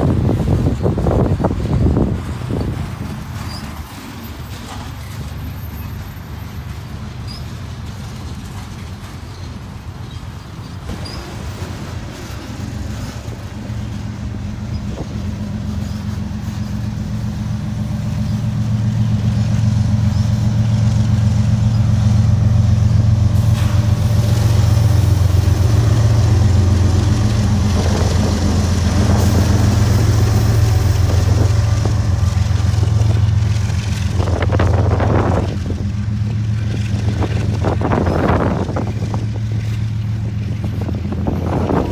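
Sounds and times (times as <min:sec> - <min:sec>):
diesel locomotive engine drone: 0:00.0 - 0:41.9
train cars rumbling on rails: 0:00.0 - 0:41.9.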